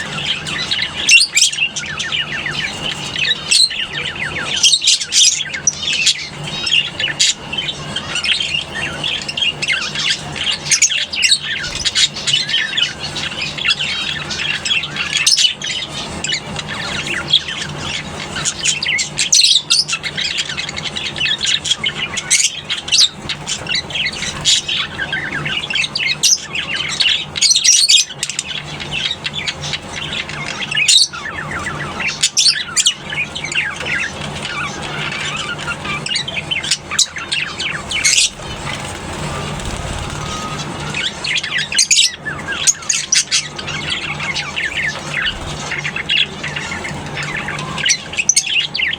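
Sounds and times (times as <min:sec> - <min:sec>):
lovebirds chattering and squawking: 0:00.0 - 0:48.9.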